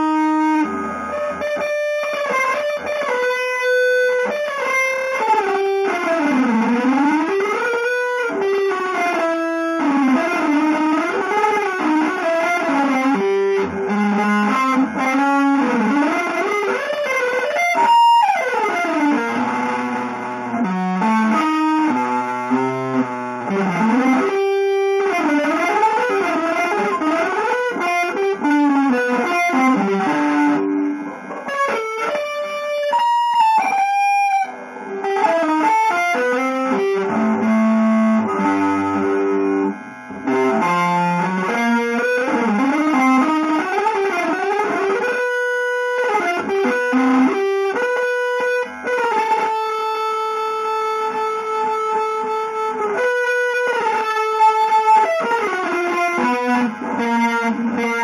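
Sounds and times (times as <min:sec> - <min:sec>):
distorted electric guitar sliding notes: 0:00.0 - 0:58.0.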